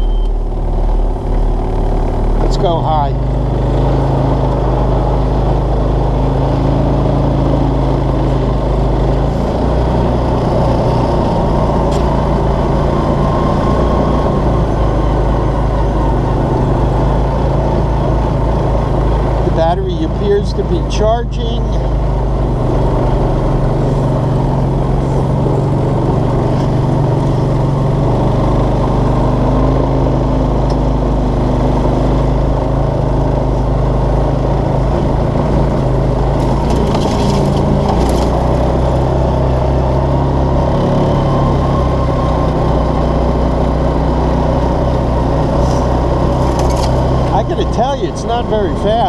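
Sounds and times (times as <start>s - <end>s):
utility vehicle engine running: 0.0s - 49.0s.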